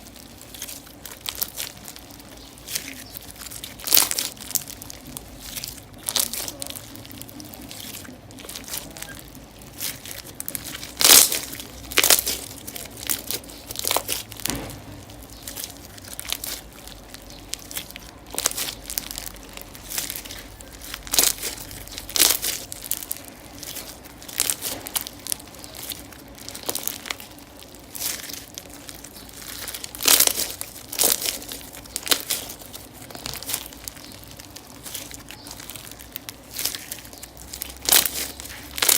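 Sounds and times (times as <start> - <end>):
slime squishing and crackling: 0.0 - 38.9.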